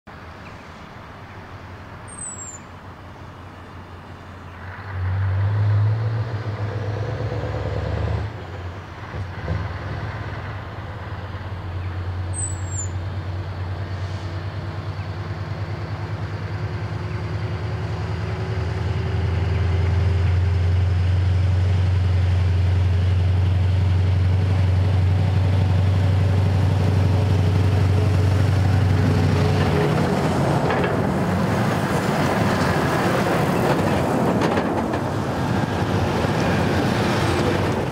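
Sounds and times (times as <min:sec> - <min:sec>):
lorries engine drone: 0:00.1 - 0:37.9
truck passing close by: 0:04.3 - 0:37.9.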